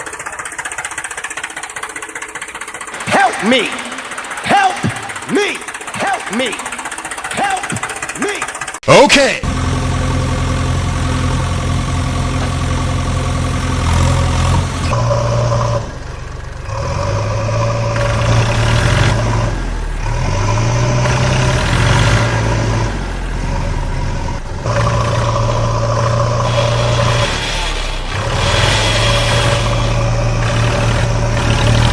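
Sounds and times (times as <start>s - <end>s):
vehicle motors under load: 0.0s - 8.8s, 9.5s - 31.9s.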